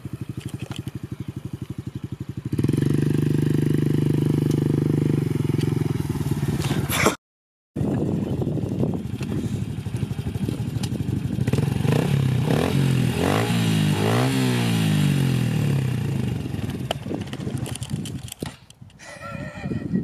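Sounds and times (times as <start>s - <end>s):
pit bike engine running: 0.0s - 6.9s, 7.8s - 18.2s.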